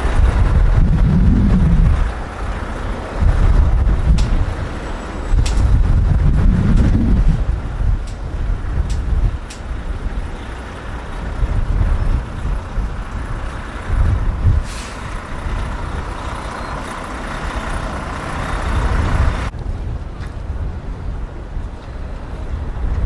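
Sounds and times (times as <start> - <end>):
wind gusting on microphone: 0.0 - 23.0.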